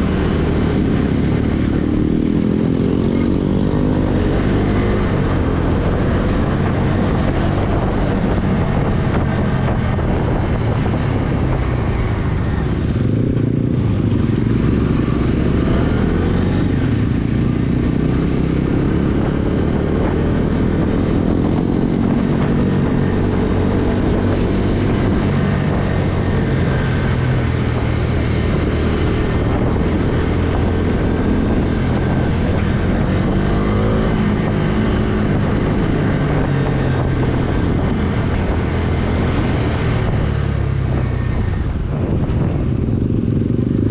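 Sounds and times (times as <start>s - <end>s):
motorcycle engine running: 0.0s - 43.9s
wind and road noise: 0.0s - 43.9s.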